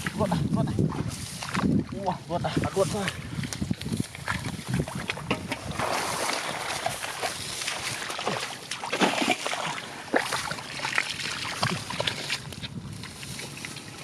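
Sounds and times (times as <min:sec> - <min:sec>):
muddy water sloshing and splashing: 0:00.0 - 0:14.0.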